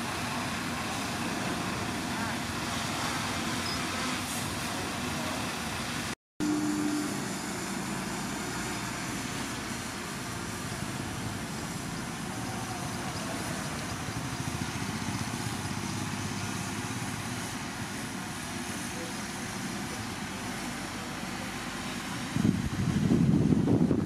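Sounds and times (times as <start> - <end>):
diesel machinery engine running: 0.0 - 24.0.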